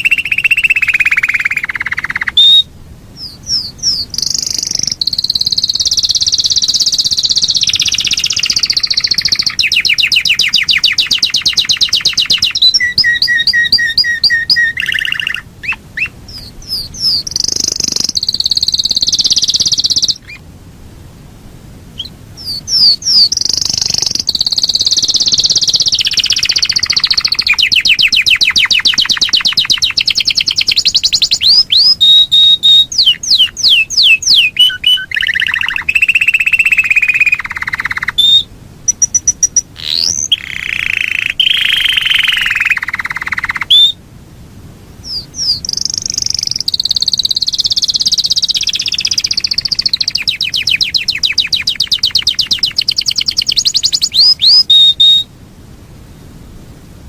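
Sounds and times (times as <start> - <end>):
canary singing trills: 0.0 - 20.5, 21.9 - 44.0, 45.0 - 55.3.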